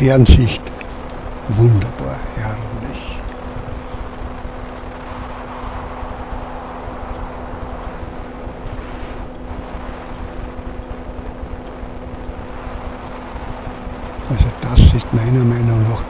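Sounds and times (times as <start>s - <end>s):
engine humming steadily: 0.0s - 16.0s
wind noise on microphone: 0.0s - 16.0s.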